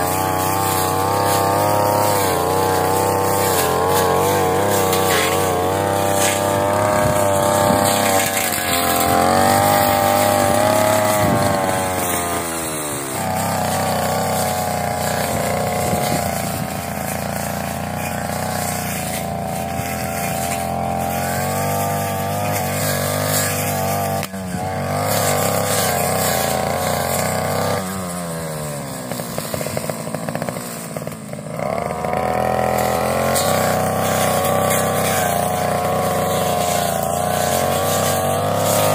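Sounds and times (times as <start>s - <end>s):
brush cutter engine revving: 0.0s - 38.9s.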